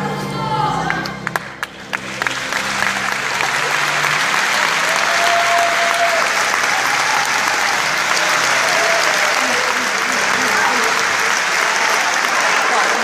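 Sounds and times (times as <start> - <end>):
audience applauding: 1.2 - 13.0.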